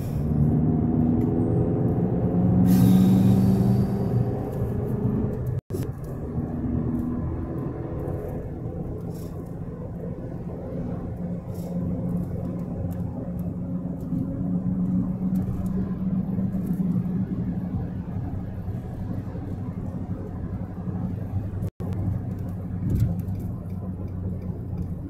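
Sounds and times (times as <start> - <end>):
car engine and tyres droning: 0.0 - 25.0.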